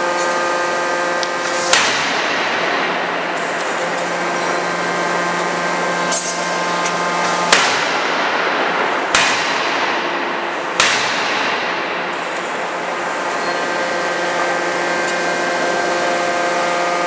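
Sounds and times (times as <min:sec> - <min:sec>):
forging hammer blows: 0:00.0 - 0:17.0
machinery hum: 0:00.0 - 0:17.0.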